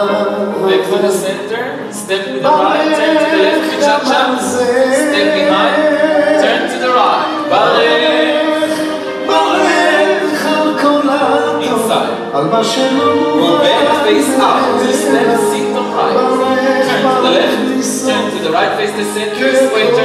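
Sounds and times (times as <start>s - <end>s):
song with sung vocals: 0.0s - 20.0s.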